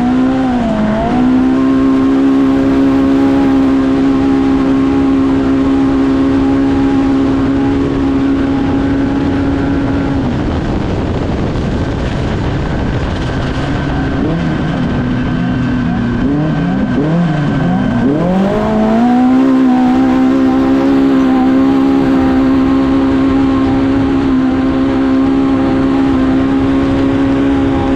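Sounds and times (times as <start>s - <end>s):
utility vehicle engine revving: 0.0s - 27.9s.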